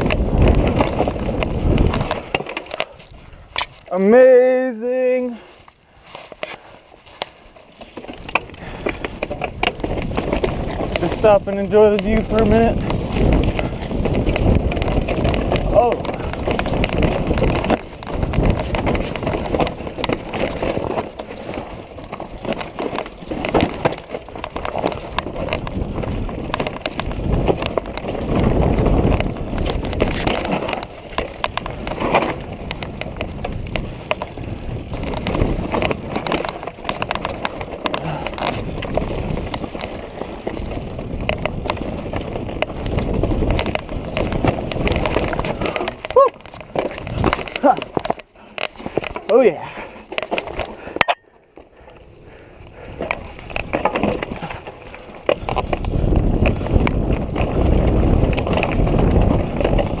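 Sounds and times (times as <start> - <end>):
bike clattering over rocks: 0.0 - 5.2, 7.1 - 51.4, 52.9 - 60.0.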